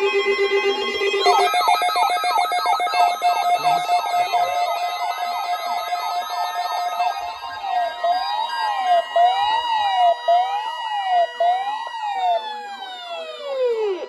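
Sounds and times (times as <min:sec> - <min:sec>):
electronic sirens wailing: 0:00.0 - 0:14.0.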